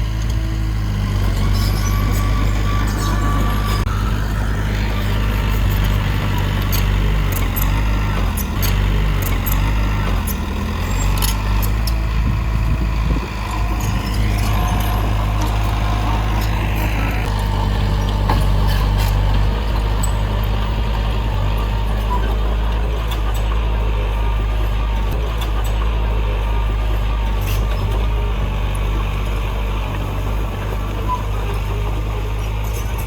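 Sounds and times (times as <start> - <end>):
heavy diesel machinery engine drone: 0.0 - 33.0.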